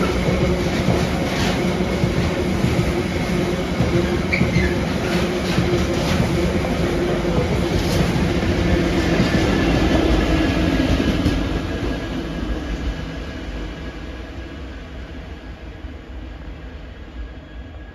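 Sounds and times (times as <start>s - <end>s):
train wheels clicking on rails: 0.0s - 14.5s
freight train passing: 0.0s - 17.9s.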